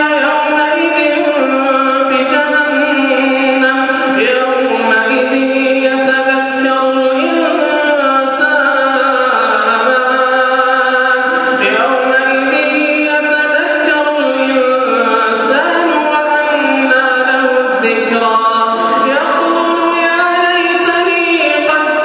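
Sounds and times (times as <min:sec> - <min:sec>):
man reciting melodically: 0:00.0 - 0:22.0.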